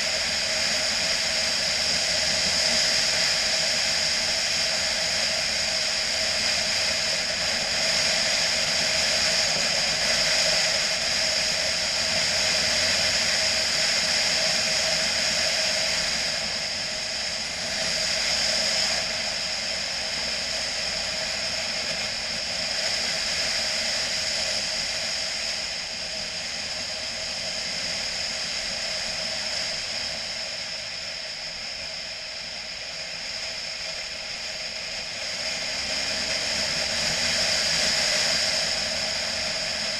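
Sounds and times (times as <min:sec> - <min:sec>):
motorcycle engine drone: 0:00.0 - 0:39.9.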